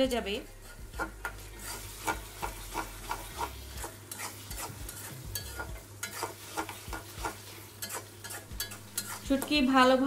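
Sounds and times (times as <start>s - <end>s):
soft sizzle: 0.0s - 10.0s
metal spatula scraping a pot: 0.3s - 10.0s.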